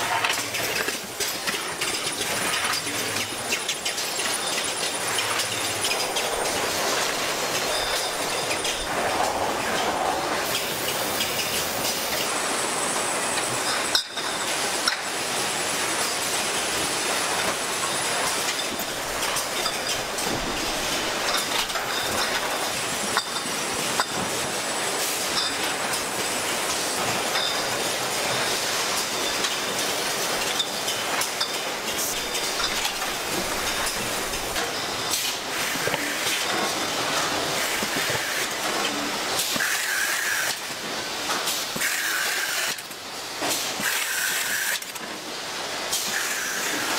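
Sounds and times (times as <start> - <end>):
conveyor machinery clattering: 0.0 - 46.9.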